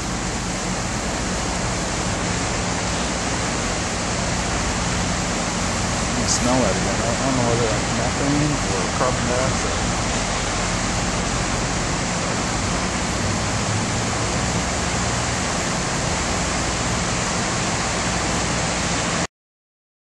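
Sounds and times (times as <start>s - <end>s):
river rushing: 0.0s - 19.3s.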